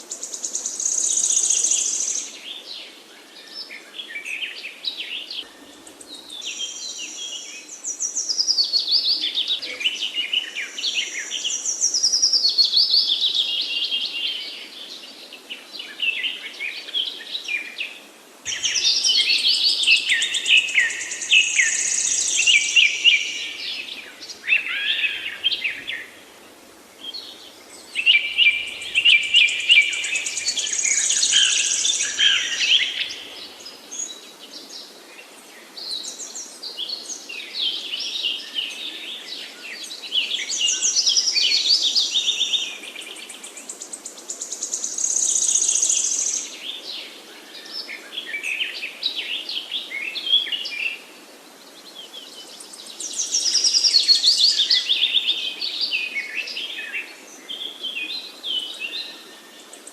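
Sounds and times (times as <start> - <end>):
songbirds trilling and warbling: 0.0 - 59.9.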